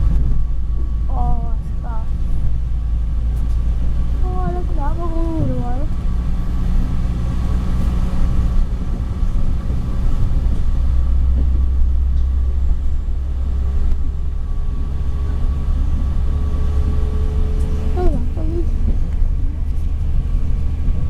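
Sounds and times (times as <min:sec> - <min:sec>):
faint train whine: 0:00.0 - 0:21.0
train rumbling: 0:00.0 - 0:21.0.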